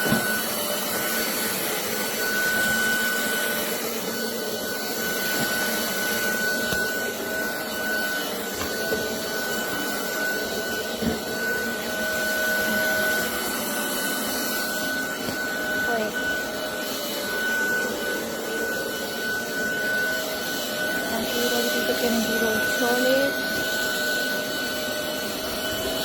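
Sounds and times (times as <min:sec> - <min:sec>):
vacuum cleaner motor whine: 0:00.0 - 0:26.0.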